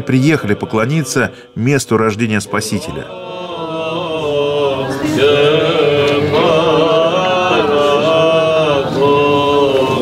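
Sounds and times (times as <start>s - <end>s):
slow chanted singing: 0.0s - 10.0s.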